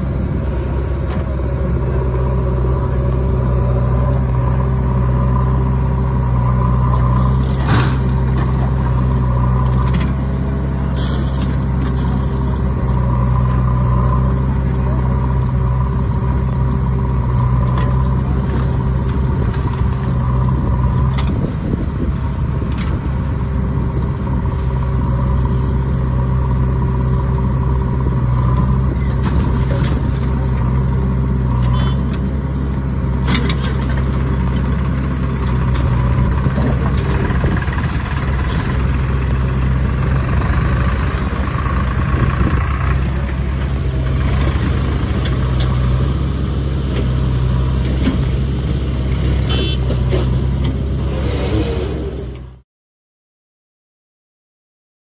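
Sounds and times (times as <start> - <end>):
diesel engines running: 0.0 - 52.6.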